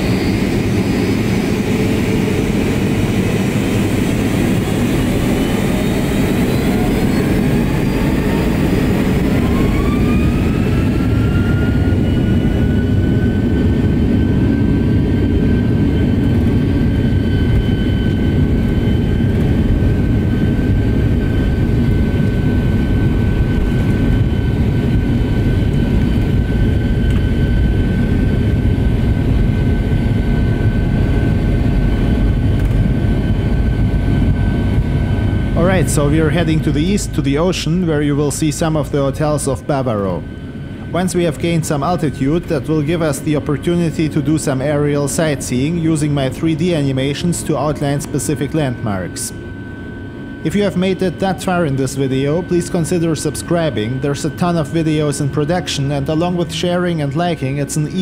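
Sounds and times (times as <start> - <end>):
deep engine rumble: 0.0 - 58.0
jet engine whine: 0.0 - 58.0.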